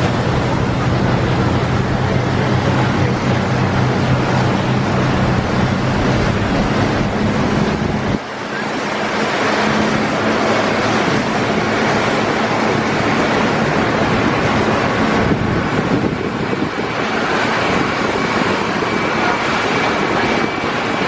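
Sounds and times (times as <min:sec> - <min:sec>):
boat engine rumble: 0:00.0 - 0:21.0
rushing water: 0:00.0 - 0:21.0
steady hum: 0:00.0 - 0:21.0
wind: 0:00.0 - 0:21.0.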